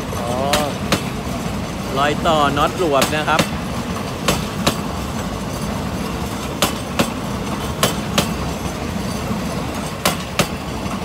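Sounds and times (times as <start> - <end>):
train rolling rumble: 0.0 - 11.0
train wheels clacking over rail joint: 0.0 - 11.0.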